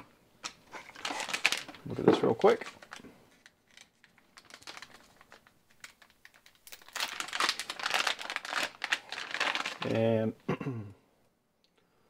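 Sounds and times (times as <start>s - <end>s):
plastic bag crinkling: 0.4s - 10.2s.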